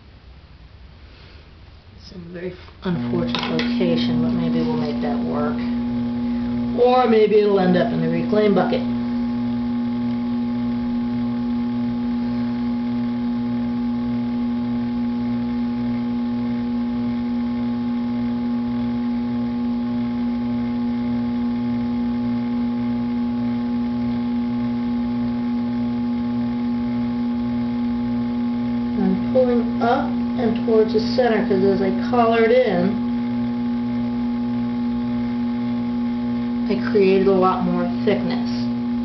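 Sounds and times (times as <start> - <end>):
faint pulsing throb: 2.0 - 39.0
potter's wheel motor humming: 2.2 - 39.0.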